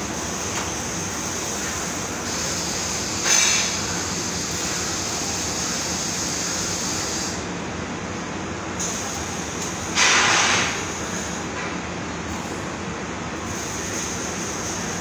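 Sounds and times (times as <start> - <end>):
factory machinery and ventilation: 0.0 - 15.0.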